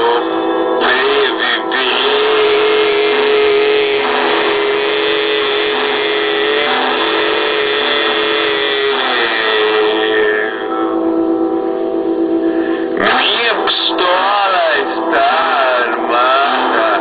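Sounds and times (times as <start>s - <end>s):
sustained drone chord: 0.0s - 17.0s.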